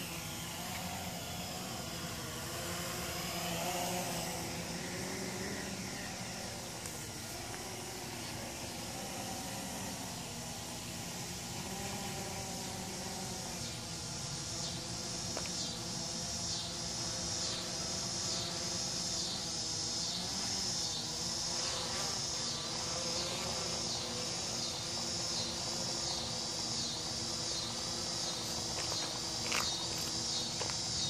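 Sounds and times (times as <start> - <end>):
faint steady hum: 0.0 - 31.0
insects calling in pulses: 0.0 - 31.0.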